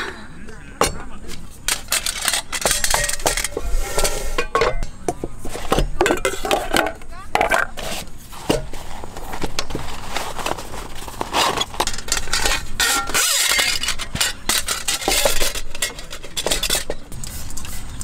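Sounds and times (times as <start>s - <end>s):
light metal clinks and scrapes: 0.8s - 18.0s.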